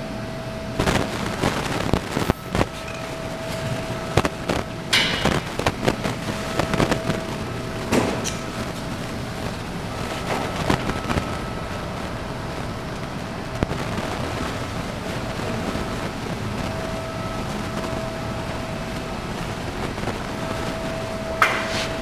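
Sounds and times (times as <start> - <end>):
faint steady hum: 0.0 - 22.0
wind on microphone: 0.6 - 22.0.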